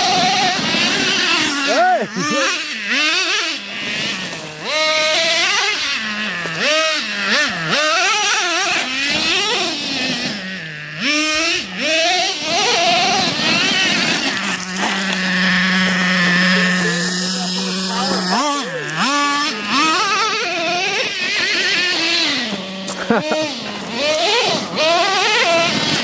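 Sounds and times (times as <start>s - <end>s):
small gas engine revving: 0.0s - 26.0s.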